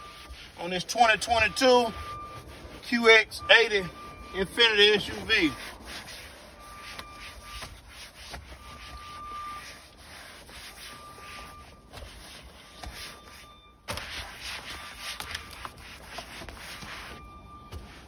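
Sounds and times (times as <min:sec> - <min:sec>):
cloth scrubbing leather seats: 0:00.0 - 0:18.0.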